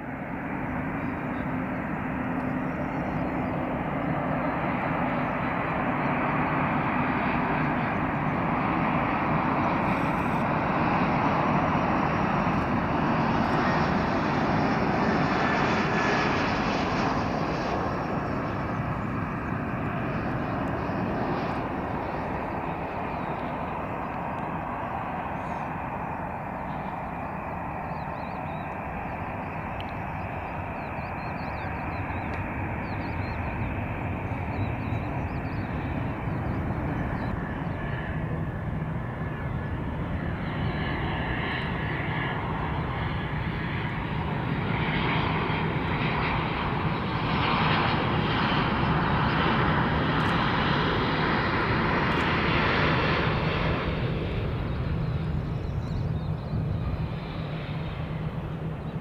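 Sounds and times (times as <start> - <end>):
jet plane engines on approach: 0.0 - 59.0.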